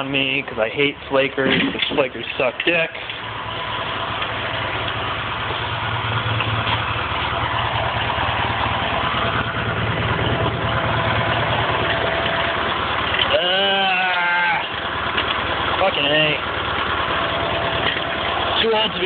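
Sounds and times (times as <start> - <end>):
garden tractor engine idling: 0.0 - 19.0.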